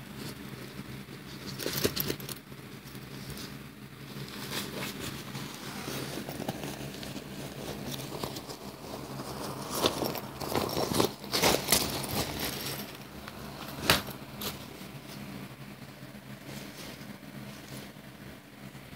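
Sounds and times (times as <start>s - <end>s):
faint steady hum: 0.0s - 18.9s
nylon fabric rustling: 0.1s - 18.4s.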